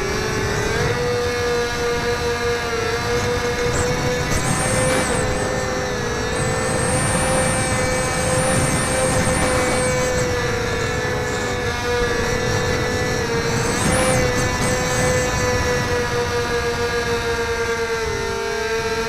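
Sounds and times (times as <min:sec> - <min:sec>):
model plane motor whining: 0:00.0 - 0:19.0
wind rushing over microphone: 0:00.0 - 0:19.0.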